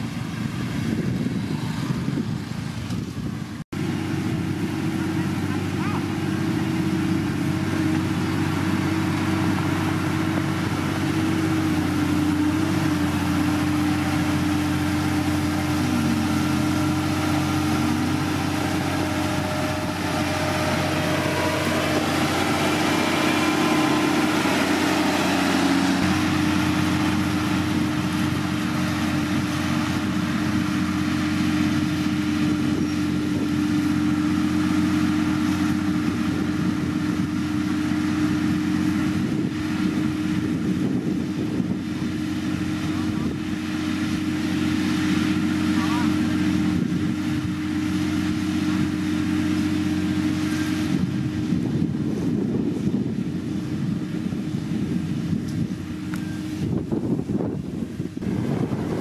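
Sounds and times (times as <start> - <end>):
diesel engine of heavy machinery: 0.0 - 59.0.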